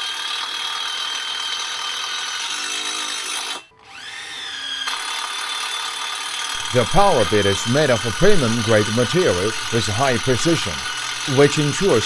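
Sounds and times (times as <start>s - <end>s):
electric drill whining: 0.0s - 12.0s.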